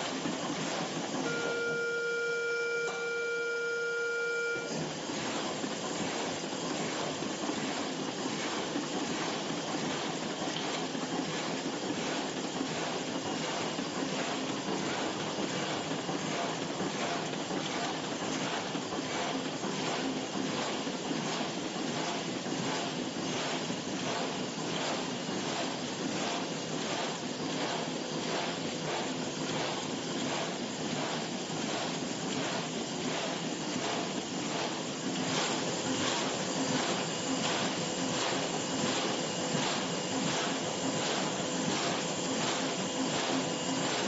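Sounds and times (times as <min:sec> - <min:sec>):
constant machine whine: 0:00.0 - 0:44.0.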